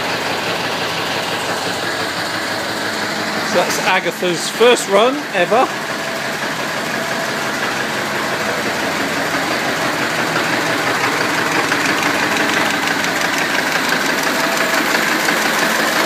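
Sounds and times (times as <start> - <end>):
old car engine running: 0.0 - 16.0.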